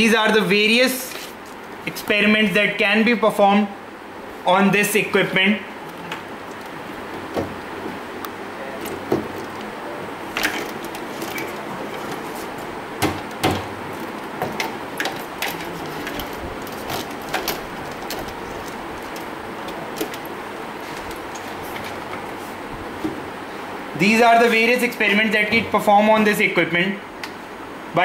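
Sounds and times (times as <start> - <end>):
room noise: 0.0 - 28.0.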